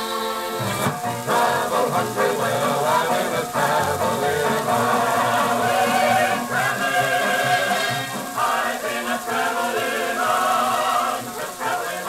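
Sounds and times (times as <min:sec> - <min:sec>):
old record music with singing: 0:00.0 - 0:12.0
steady record hiss: 0:00.0 - 0:12.0.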